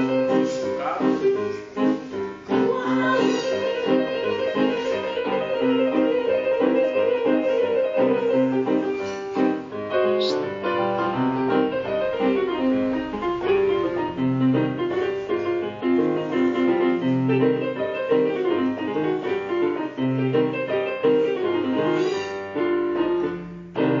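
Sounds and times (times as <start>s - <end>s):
piano quick notes: 0.0s - 24.0s.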